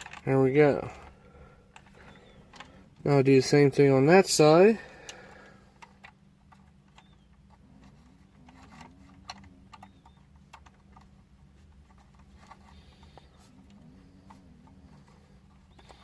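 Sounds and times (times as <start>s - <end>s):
plastic parts clicking: 0.0s - 3.0s, 5.0s - 16.0s.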